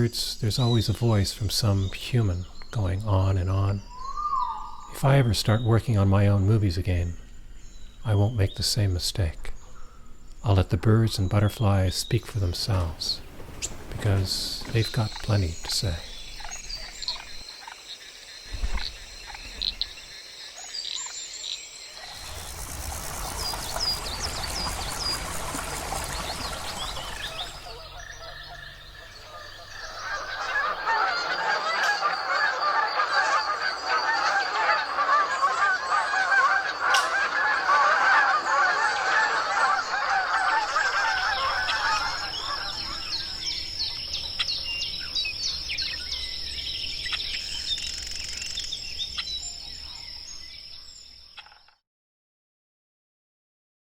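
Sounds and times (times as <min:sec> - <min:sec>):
birds calling: 0:00.0 - 0:51.6.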